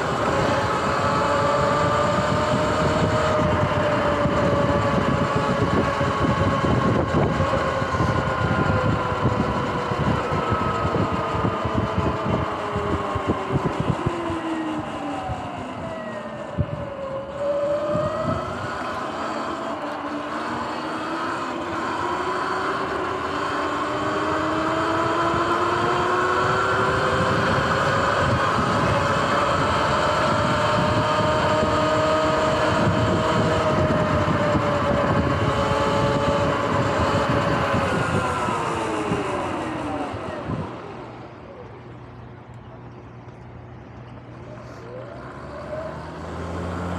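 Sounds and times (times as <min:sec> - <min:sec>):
electric motorbike motor whine: 0:00.0 - 0:42.1
wind buffeting microphone: 0:00.0 - 0:46.9.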